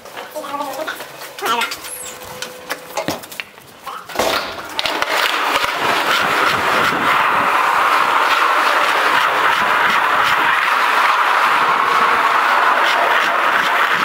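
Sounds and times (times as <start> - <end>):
skateboard wheels rolling: 0.0 - 14.0.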